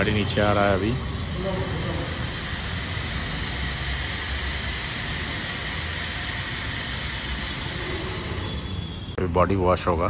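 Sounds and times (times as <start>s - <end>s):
vehicle lift humming and hissing: 0.0s - 9.2s.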